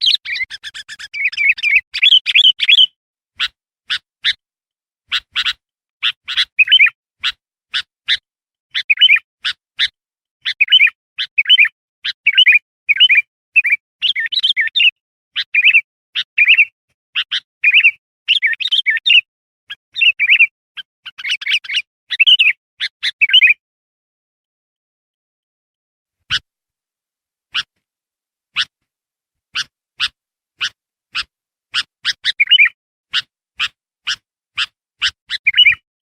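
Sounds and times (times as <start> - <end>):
bird chip notes and whistles: 0.0 - 4.4, 5.1 - 23.6, 27.5 - 27.7, 29.6 - 35.8.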